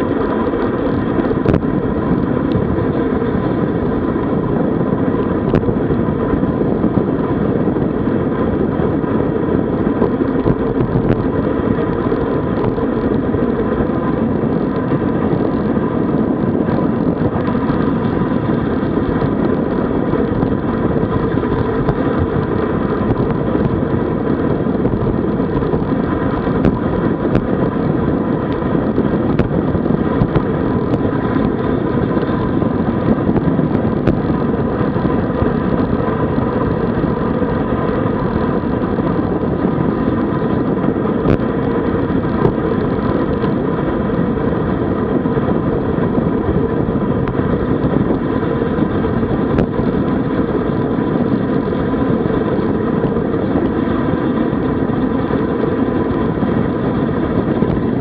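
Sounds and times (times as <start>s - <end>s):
faint steady whine: 0.0s - 58.0s
road noise: 0.0s - 58.0s
wind rushing on microphone: 0.0s - 58.0s.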